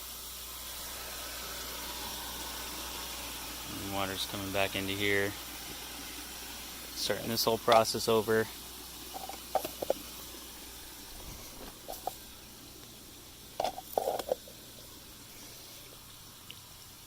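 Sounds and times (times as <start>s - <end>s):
water running into pond: 0.0s - 17.0s.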